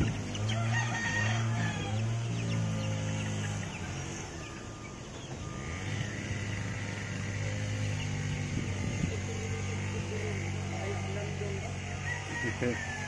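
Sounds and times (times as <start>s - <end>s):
chickens calling: 0.0s - 13.0s.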